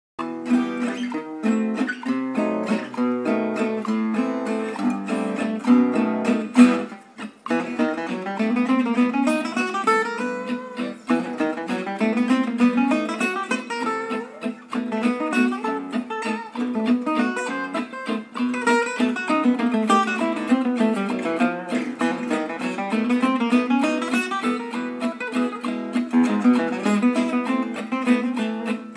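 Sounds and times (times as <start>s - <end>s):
instrumental guitar music: 0.2s - 28.9s.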